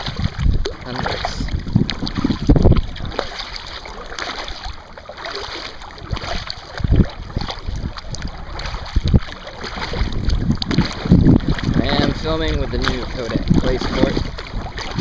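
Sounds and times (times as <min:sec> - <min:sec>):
water sloshing and splashing: 0:00.0 - 0:15.0
wind buffeting microphone: 0:00.0 - 0:15.0.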